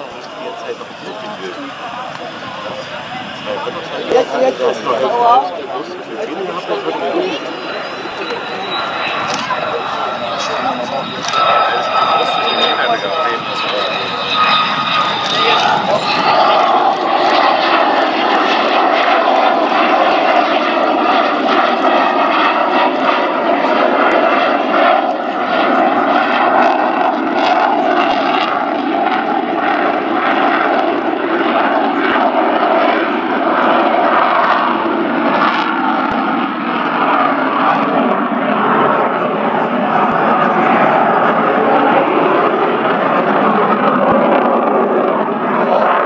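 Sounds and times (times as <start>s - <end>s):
jet engines with afterburners: 0.0s - 46.0s.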